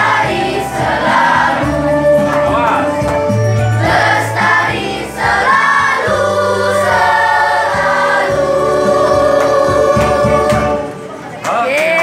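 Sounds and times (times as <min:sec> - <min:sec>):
children's choir singing: 0:00.0 - 0:11.2
electronic keyboard accompaniment: 0:00.0 - 0:11.4.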